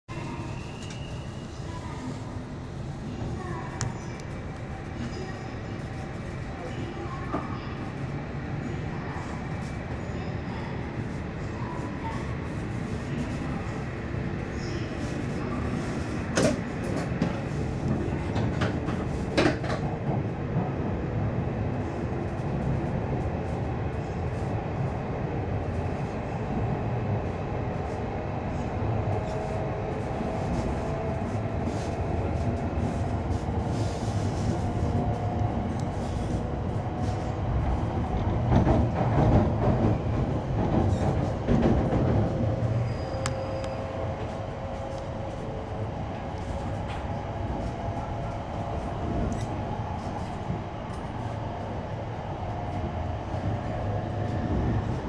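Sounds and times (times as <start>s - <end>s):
train running gear rumble: 0.1s - 55.0s.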